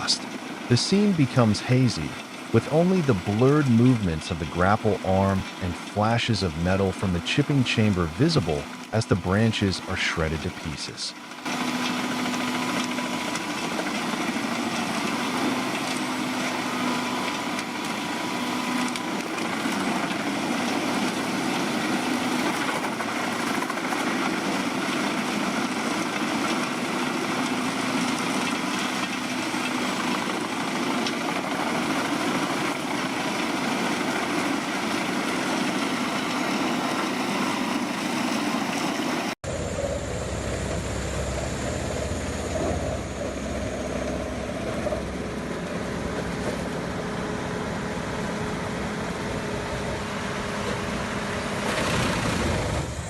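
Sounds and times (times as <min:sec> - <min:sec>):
machine sound: 0:00.0 - 0:48.8
wood chipper shredding branches: 0:00.0 - 0:53.0.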